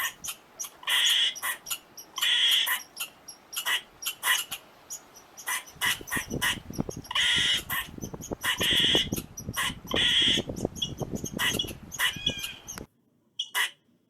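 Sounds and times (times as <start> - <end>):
squirrel alarm chips: 0.0 - 12.8
squirrel harsh rasping calls: 0.0 - 13.8.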